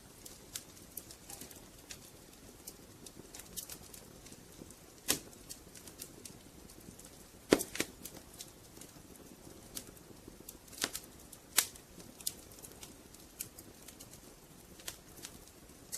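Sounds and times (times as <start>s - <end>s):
firewood crackling and popping: 0.0s - 15.9s
soft low hiss: 0.0s - 15.9s.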